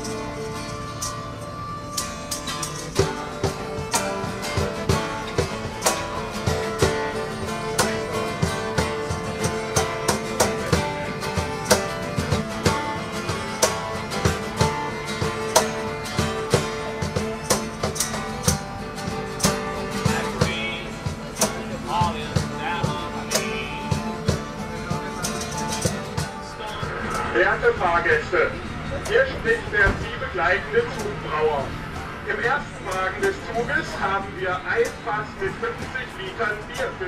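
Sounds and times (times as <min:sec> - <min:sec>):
acoustic guitar strumming: 0:00.0 - 0:37.0
fiddle playing folk tune: 0:00.0 - 0:37.0.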